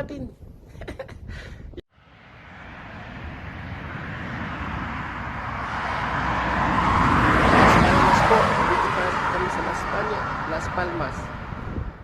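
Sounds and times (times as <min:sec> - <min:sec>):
vehicle passing by: 0:02.0 - 0:12.0.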